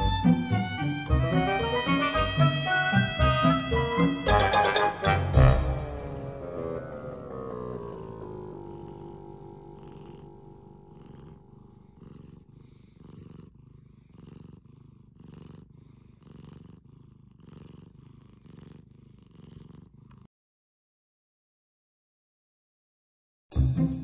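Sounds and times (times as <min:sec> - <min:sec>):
cat purring: 0:00.0 - 0:20.3.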